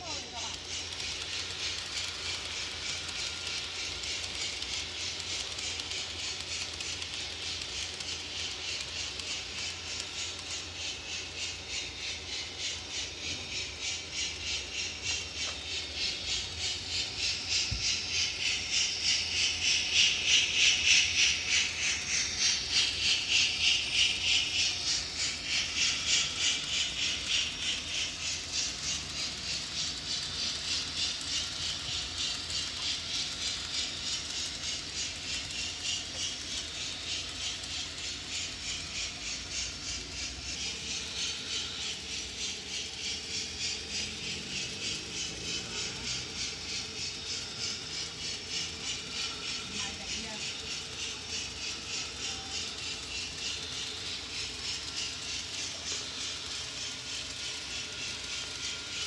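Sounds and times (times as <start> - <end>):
model train hissing beat: 0.0 - 59.0.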